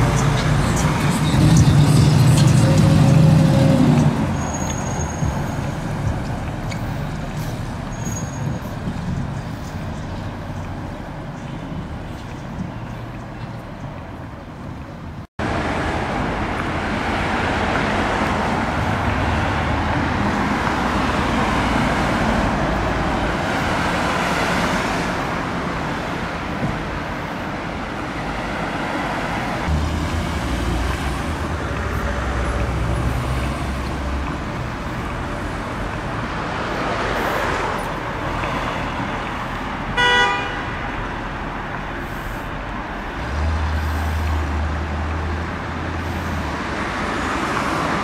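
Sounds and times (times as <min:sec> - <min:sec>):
cars passing: 0:00.0 - 0:48.0.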